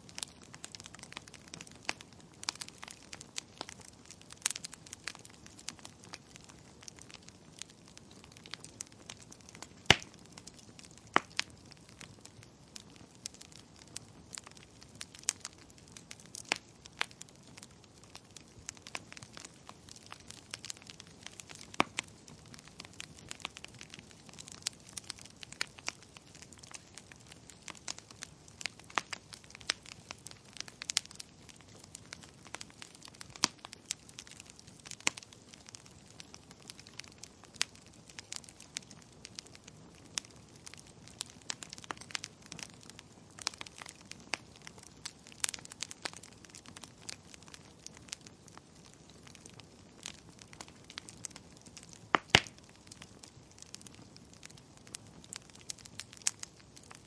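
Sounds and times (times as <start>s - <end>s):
soft steady hiss: 0.0s - 57.0s
wood fire crackling: 0.0s - 57.0s.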